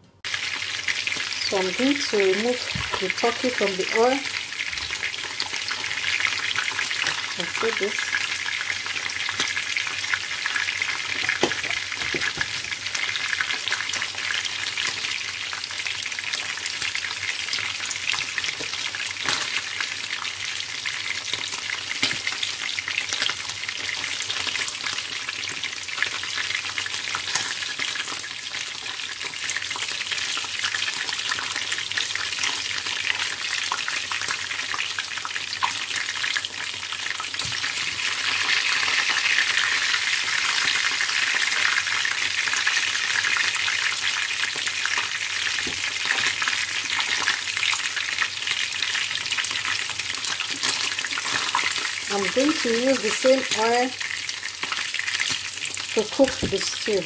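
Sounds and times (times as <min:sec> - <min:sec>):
meat sizzling in hot oil: 0:00.2 - 0:57.0.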